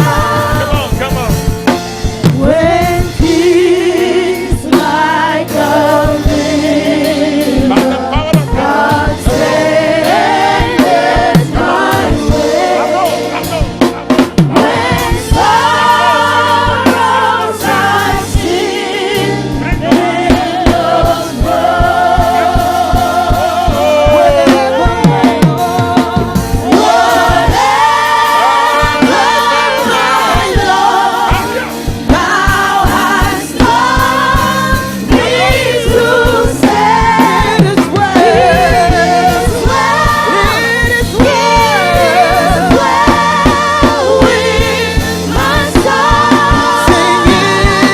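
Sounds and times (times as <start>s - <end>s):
choir singing: 0.0s - 1.1s, 2.4s - 47.9s
bass: 0.0s - 47.9s
lead voice singing: 0.0s - 47.9s
steady drum beat: 0.0s - 47.9s.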